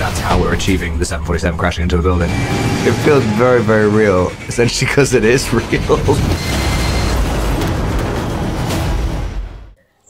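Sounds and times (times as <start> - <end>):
sharp impact hit: 0.0 - 9.4
film score music: 0.0 - 9.8.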